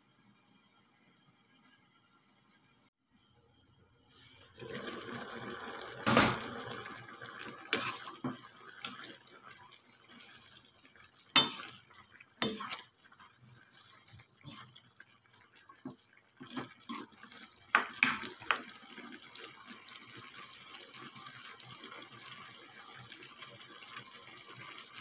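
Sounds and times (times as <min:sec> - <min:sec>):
sauce sizzling in a wok: 0:03.2 - 0:25.0.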